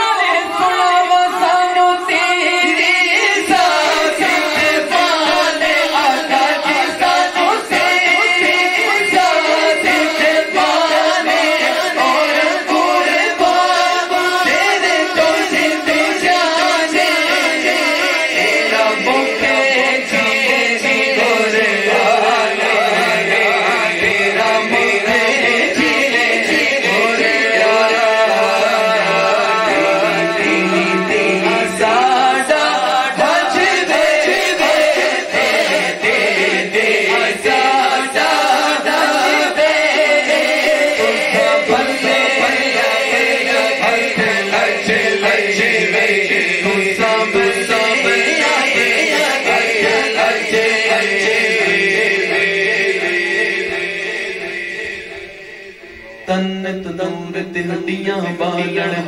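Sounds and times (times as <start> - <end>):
men singing devotional song: 0.0 - 59.0.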